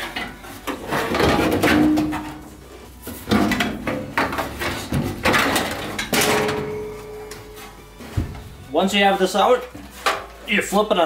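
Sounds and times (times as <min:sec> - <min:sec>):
sheet metal scraping and clattering: 0:00.0 - 0:08.7, 0:09.3 - 0:10.5.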